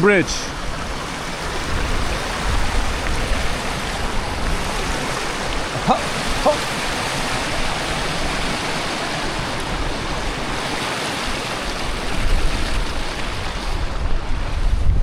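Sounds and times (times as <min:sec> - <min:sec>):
stream rushing over rocks: 0:00.0 - 0:15.0
wind rumble on microphone: 0:00.5 - 0:15.0.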